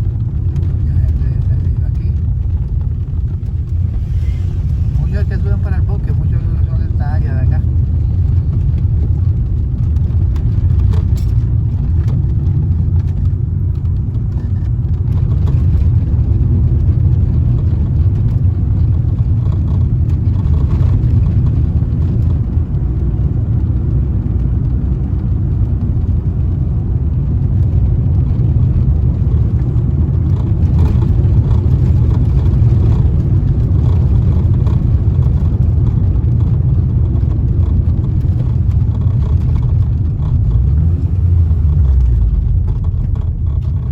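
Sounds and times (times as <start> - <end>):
car engine rumble: 0.0 - 43.9
tyre noise on road: 0.0 - 43.9.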